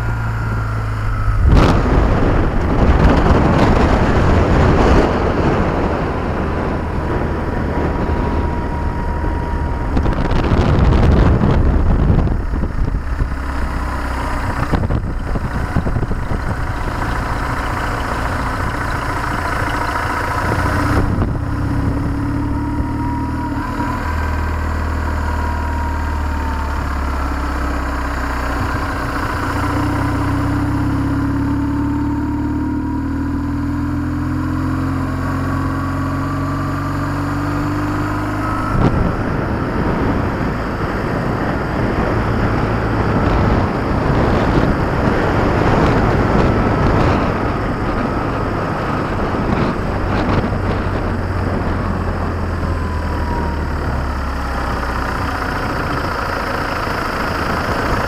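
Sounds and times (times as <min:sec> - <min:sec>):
motorcycle engine running: 0:00.0 - 0:58.0
wind buffeting: 0:00.0 - 0:58.0.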